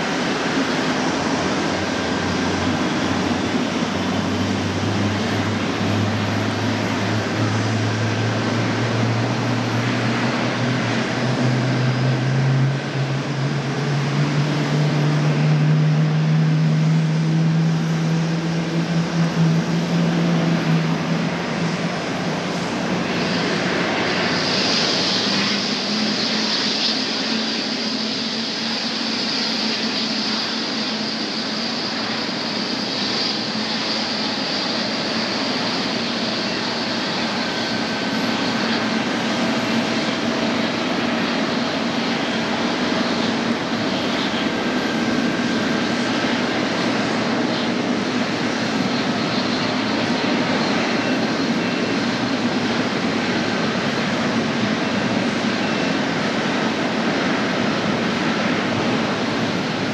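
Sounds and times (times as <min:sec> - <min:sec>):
high whine: 0:00.0 - 0:59.9
jet airliner engines taxiing: 0:00.0 - 0:59.9.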